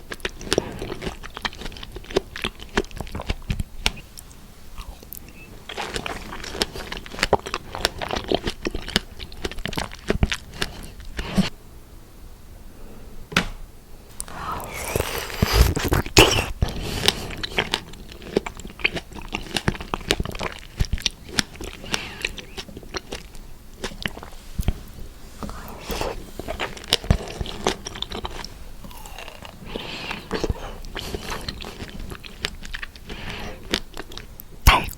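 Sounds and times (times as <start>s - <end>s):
chewing strawberries: 0.0s - 11.5s, 14.2s - 34.9s.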